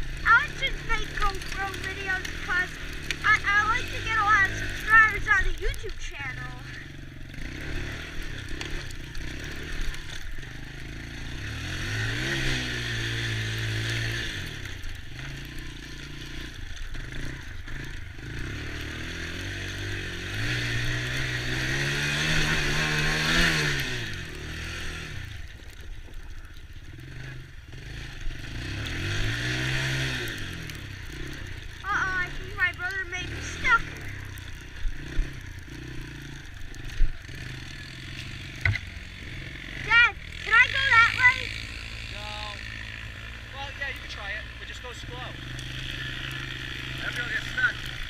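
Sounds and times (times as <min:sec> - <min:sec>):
small atv engine revving: 0:00.0 - 0:48.0.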